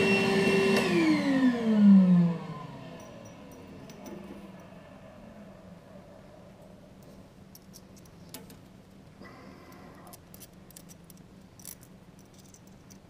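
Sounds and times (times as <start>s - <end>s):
steady low hum: 1.1s - 13.0s.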